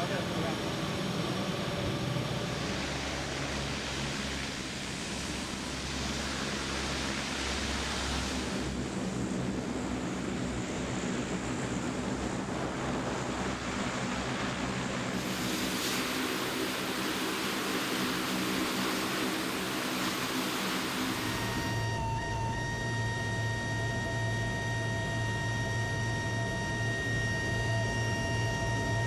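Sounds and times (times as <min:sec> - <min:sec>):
turboprop engines roaring: 0:00.0 - 0:29.0.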